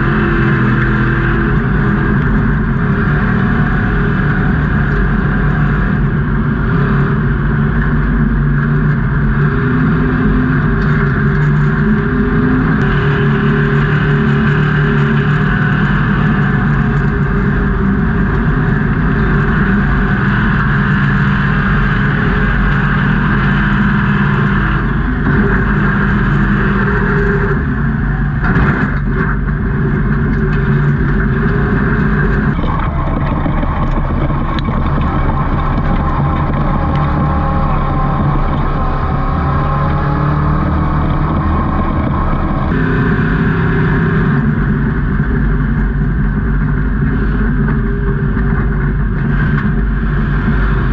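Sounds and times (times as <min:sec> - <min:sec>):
race truck engine droning: 0:00.0 - 0:50.9.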